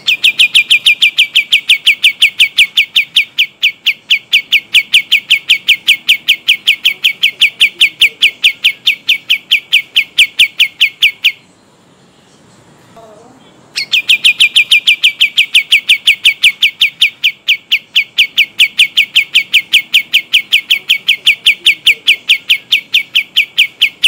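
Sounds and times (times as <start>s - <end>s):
bird singing rolling trill: 0.0s - 24.0s.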